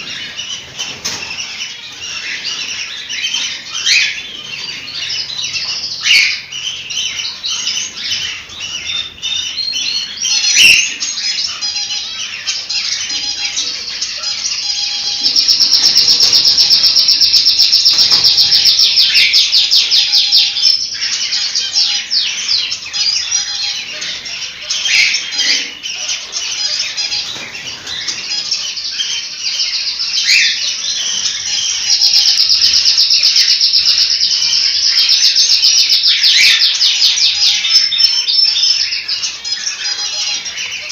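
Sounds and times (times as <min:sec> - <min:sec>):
fast rattling bird calls: 0:00.0 - 0:23.8, 0:24.4 - 0:40.9
cockatiels chirping and whistling: 0:00.0 - 0:40.9.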